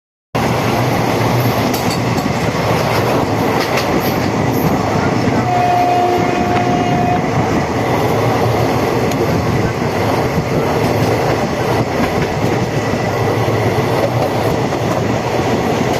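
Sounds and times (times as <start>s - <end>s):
train rattling on rails: 0.4s - 15.9s.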